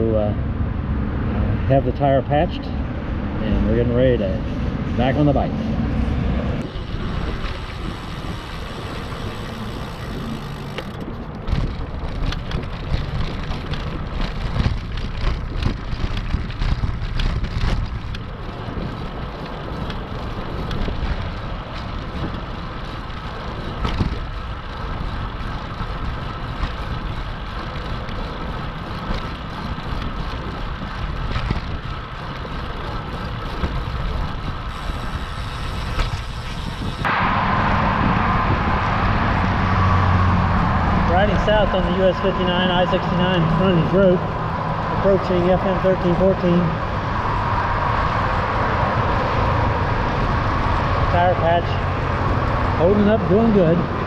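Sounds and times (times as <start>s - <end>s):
wind rushing over microphone: 0.0s - 54.0s
bike tyre noise on pavement: 0.9s - 54.0s.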